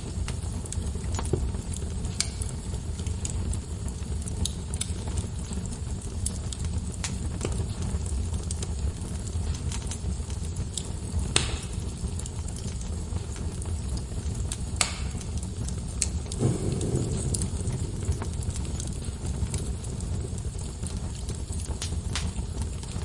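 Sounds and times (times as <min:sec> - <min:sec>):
log fire crackling: 0:00.0 - 0:23.0
sharp fire pops: 0:00.0 - 0:23.0.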